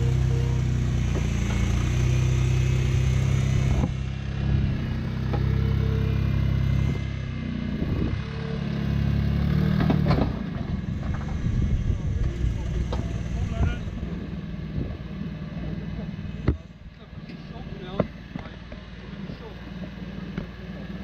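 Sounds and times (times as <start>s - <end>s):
car engine running at low revs: 0.0s - 21.0s.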